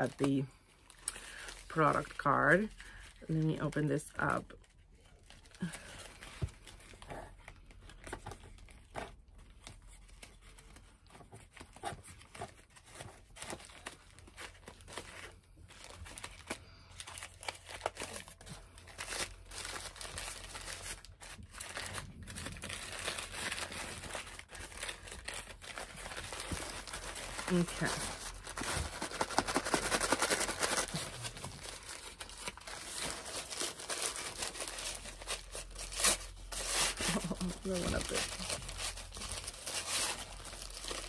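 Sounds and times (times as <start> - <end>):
paper crinkling and tearing: 5.0 - 41.0.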